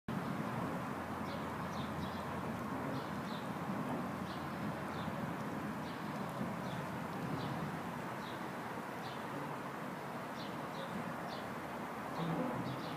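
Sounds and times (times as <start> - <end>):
steady rain: 0.1 - 12.9.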